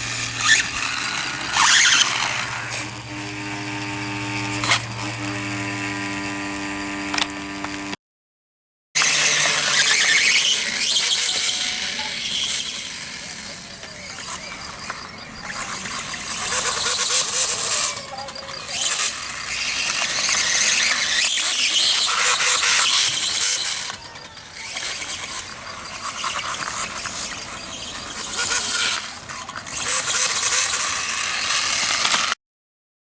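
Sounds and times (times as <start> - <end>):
toy motorbike motor whining: 0.0 - 8.0, 9.0 - 32.4.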